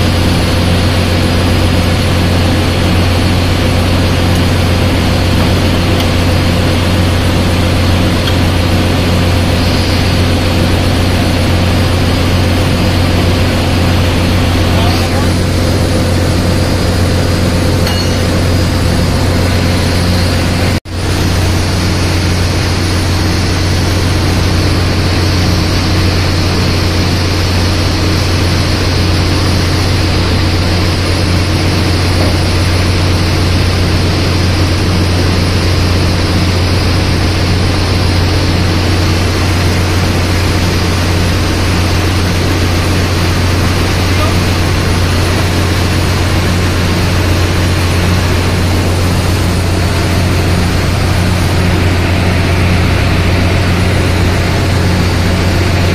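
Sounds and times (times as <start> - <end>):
ship engine-room machinery drone: 0.0 - 55.9.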